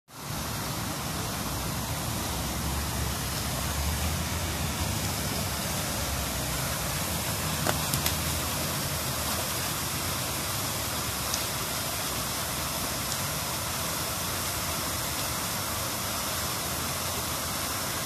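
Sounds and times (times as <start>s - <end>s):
fountain jets splashing: 0.1s - 18.0s.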